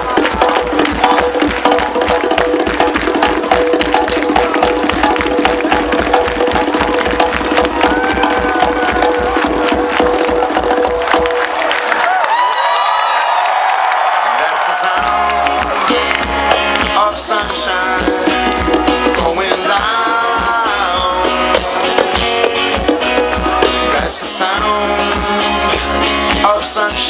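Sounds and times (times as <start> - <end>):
live band playing reggae-pop: 0.0 - 11.5, 14.8 - 27.0
fast drum and hand percussion: 0.0 - 12.1, 14.9 - 27.0.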